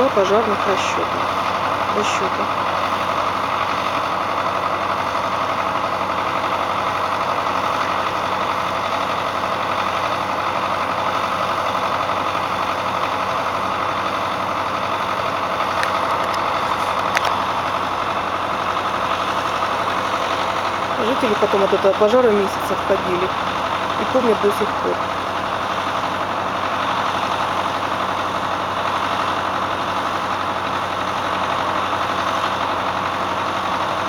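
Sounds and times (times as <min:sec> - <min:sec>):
tractor engine idling: 0:00.0 - 0:34.0.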